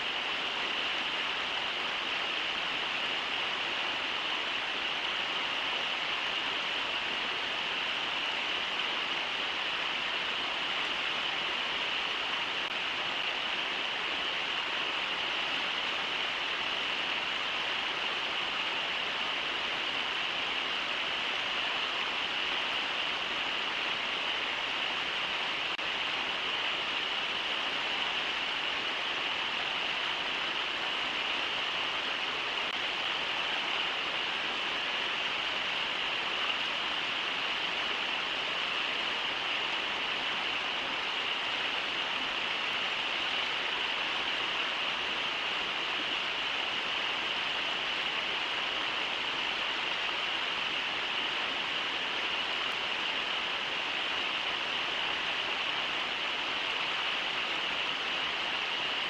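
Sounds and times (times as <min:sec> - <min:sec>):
river rushing over riffles: 0:00.0 - 0:59.0.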